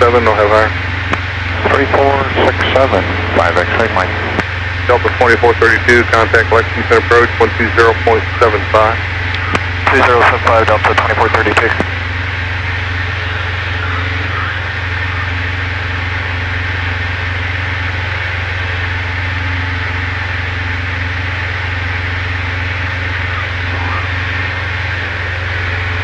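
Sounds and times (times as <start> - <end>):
propeller plane engine drone: 0.0 - 26.0.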